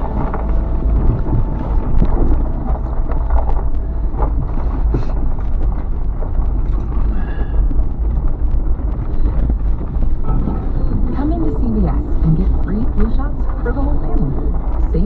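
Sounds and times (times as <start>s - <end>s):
knocks and clicks over bumps: 0.0s - 15.0s
vehicle engine rumble: 0.0s - 15.0s.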